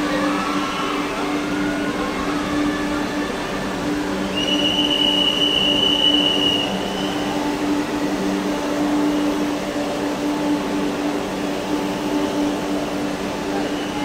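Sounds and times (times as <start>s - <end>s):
noisy rumble: 0.0s - 13.9s
electric train humming: 0.0s - 14.0s
high-pitched whine: 0.0s - 14.0s.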